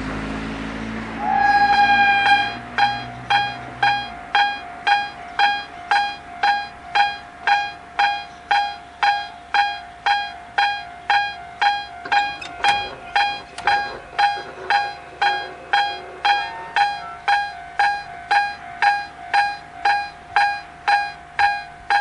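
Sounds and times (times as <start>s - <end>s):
level crossing warning bell: 1.2s - 22.0s.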